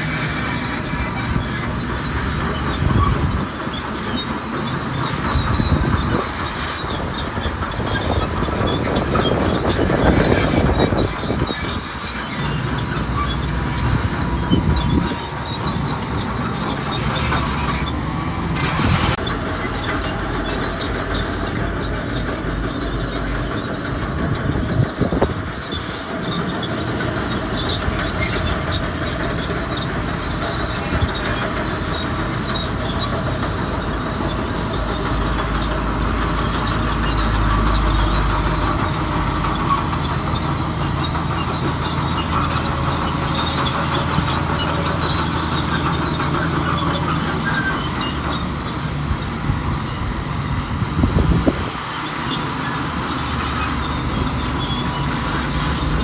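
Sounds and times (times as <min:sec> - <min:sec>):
bulldozer tracks clanking and squealing: 0:00.0 - 0:56.0.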